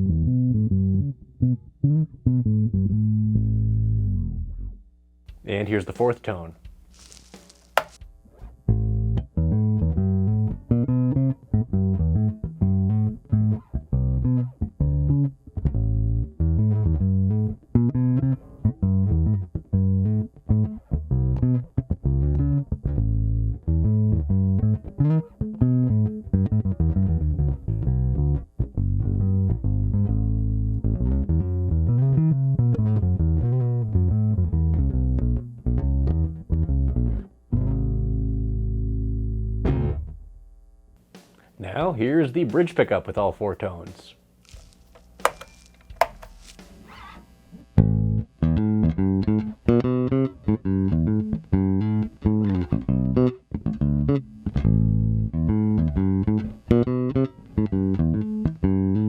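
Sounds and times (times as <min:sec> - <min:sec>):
electric bass plucked notes: 0:00.0 - 0:04.8, 0:08.7 - 0:40.1, 0:47.8 - 0:59.0.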